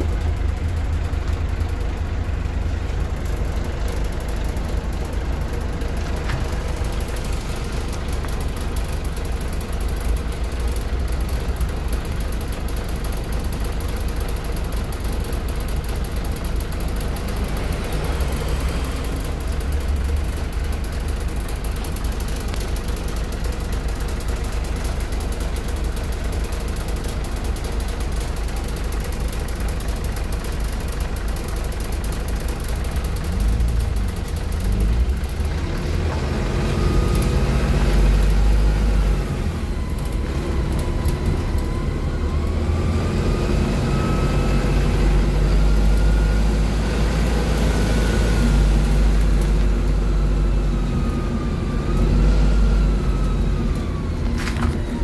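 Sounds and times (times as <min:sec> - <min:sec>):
bus engine running: 0:00.0 - 0:55.0
drivetrain whine: 0:00.0 - 0:55.0.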